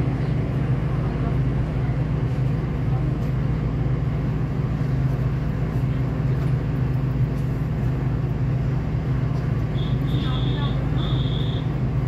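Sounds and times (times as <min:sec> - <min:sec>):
diesel train engine droning: 0:00.0 - 0:12.0.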